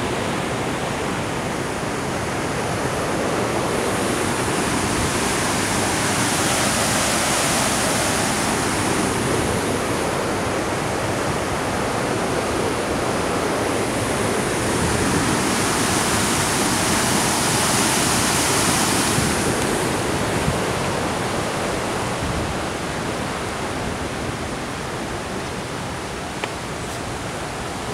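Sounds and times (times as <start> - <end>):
rushing river water: 0.0 - 27.9.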